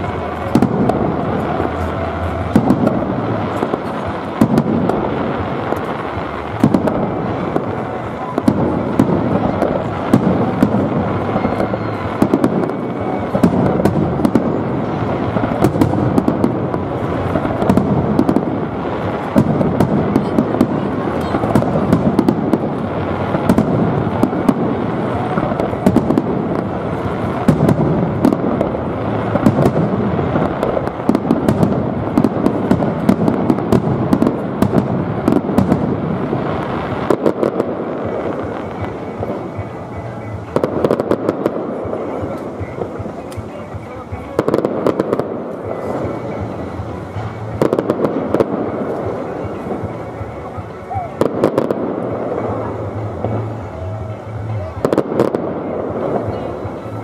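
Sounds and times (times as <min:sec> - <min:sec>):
firework crackle: 0:00.0 - 0:57.0.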